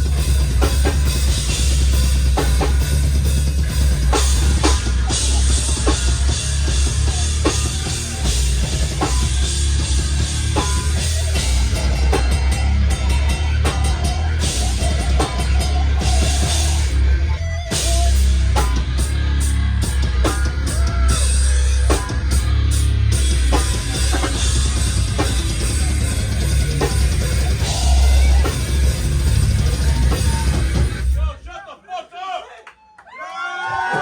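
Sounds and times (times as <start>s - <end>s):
heavy rock band playing live: 0.0s - 31.4s
deep heavy bass: 0.0s - 31.5s
pounding drum kit: 0.0s - 31.6s.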